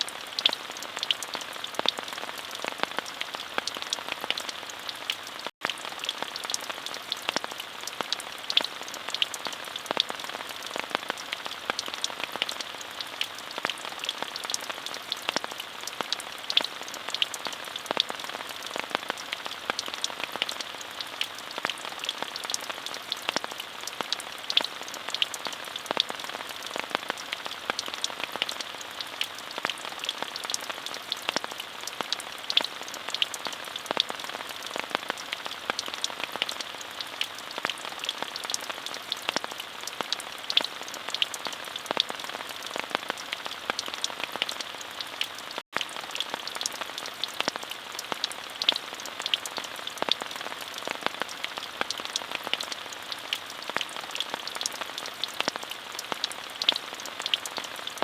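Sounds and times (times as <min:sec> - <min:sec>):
raindrops ticking: 0:00.0 - 0:58.0
steady rainfall: 0:00.0 - 0:58.0.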